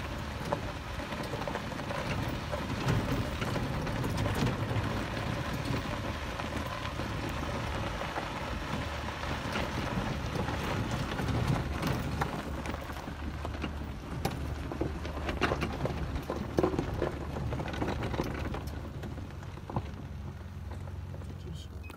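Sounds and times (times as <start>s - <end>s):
car engine hum: 0.0s - 21.9s
tyres crunching over gravel: 0.0s - 21.9s.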